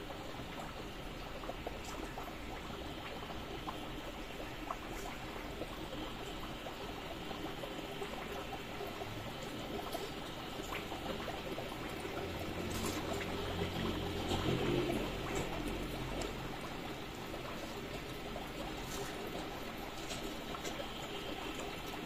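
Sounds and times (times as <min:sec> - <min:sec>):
aquarium water trickling and bubbling: 0:00.0 - 0:22.0.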